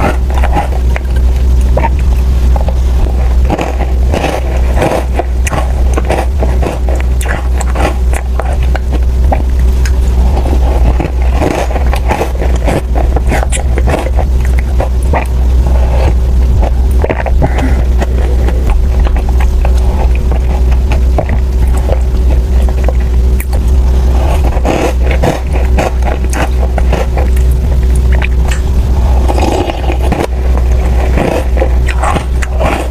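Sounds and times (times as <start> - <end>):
crunching and chewing: 0.0 - 32.9
low hum: 0.0 - 32.9.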